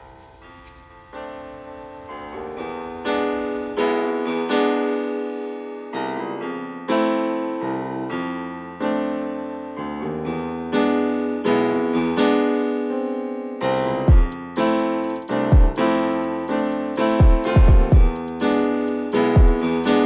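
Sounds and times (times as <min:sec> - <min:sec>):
soft piano chords: 0:00.9 - 0:20.0.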